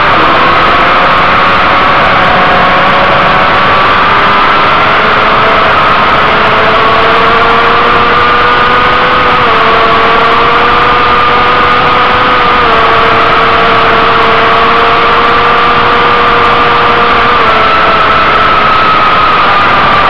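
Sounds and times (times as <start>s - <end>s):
motorcycle engine running hard: 0.0s - 20.0s.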